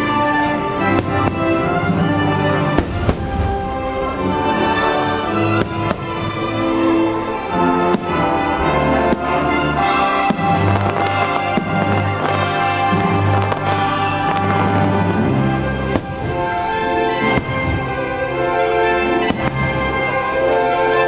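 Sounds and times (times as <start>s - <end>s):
fireworks bursting: 0.0s - 21.0s
soundtrack music: 0.0s - 21.0s.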